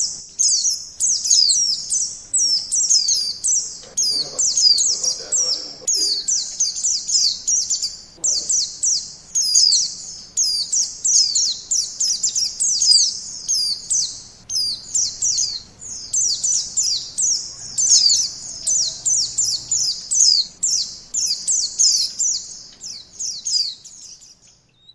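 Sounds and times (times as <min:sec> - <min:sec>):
white-eye bird chirping: 0:00.0 - 0:24.9.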